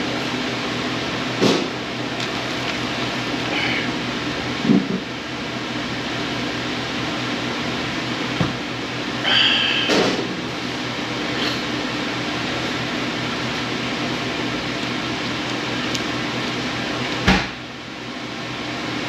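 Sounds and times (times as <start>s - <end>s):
mechanical room hum: 0.0s - 19.0s.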